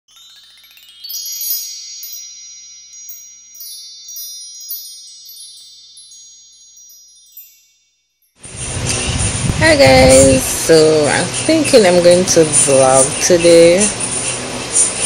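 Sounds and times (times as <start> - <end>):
sparkling bell-like chimes: 0.1 - 15.0.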